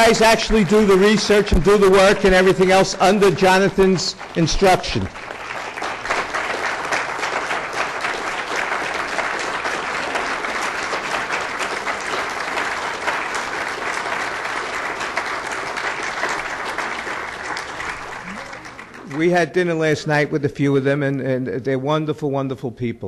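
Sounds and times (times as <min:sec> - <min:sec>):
audience applauding: 0:00.0 - 0:19.8.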